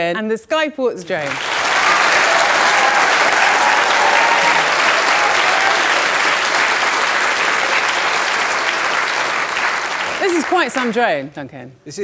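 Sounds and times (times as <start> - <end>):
large audience applauding: 1.0 - 11.2.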